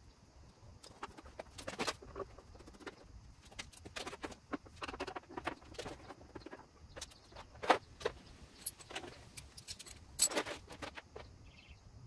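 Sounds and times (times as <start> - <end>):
plastic panels clicking and rattling: 0.8 - 11.4.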